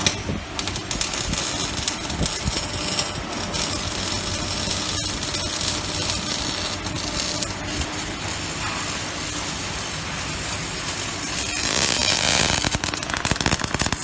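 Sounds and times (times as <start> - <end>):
welding arc hissing and crackling: 0.0 - 14.0.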